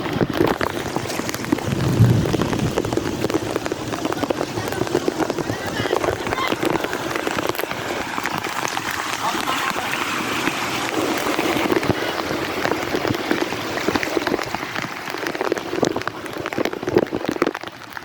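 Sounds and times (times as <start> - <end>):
heavy rain pouring: 0.3 - 18.0.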